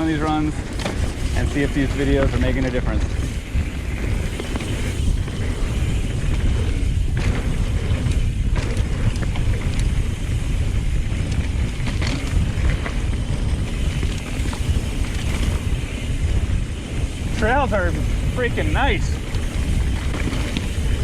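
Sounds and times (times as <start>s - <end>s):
bike clicks and rattles: 0.0s - 21.0s
bike tyre noise: 0.0s - 21.0s
wind rush over microphone: 0.0s - 21.0s.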